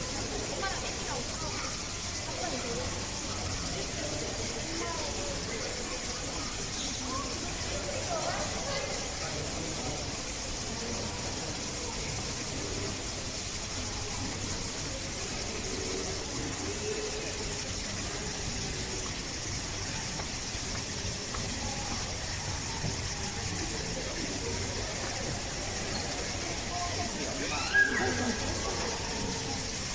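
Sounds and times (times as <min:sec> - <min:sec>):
distant voices murmuring: 0:00.0 - 0:29.9
even hiss: 0:00.0 - 0:29.9.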